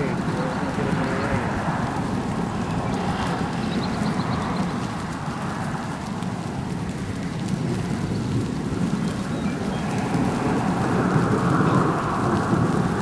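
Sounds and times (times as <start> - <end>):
distant hail roar: 0.0 - 13.0.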